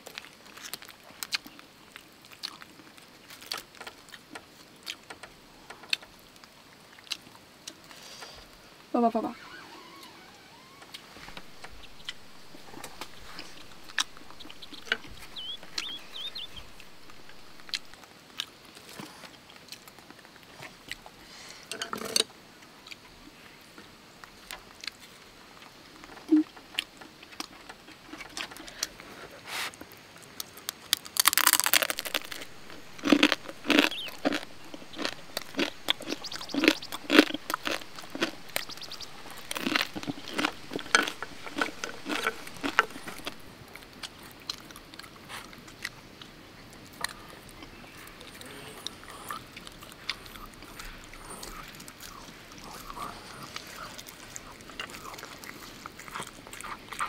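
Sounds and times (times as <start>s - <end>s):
person crunching and chewing: 0.0s - 8.4s, 10.9s - 21.2s, 29.8s - 57.0s.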